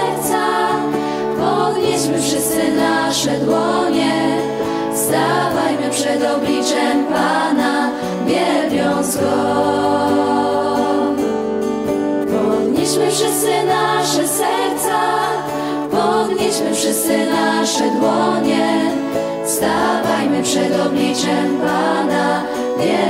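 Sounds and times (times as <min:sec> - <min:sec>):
women's group singing: 0:00.0 - 0:11.4, 0:12.2 - 0:23.0.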